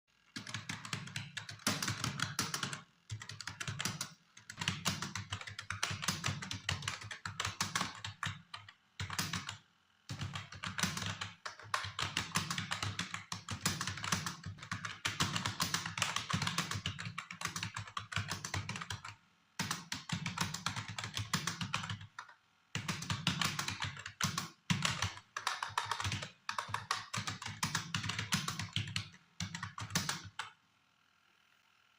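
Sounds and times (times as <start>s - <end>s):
keyboard typing clicks: 0.4s - 30.6s.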